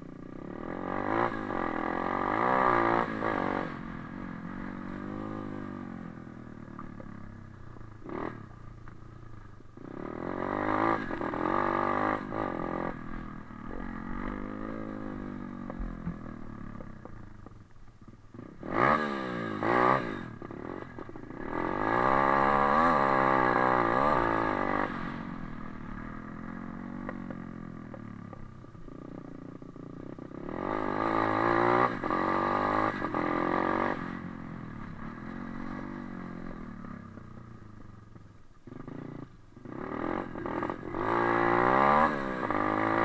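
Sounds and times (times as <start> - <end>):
motorbike engine revving: 0.3 - 7.1, 8.0 - 8.6, 9.8 - 17.2, 18.3 - 37.9, 38.6 - 43.0.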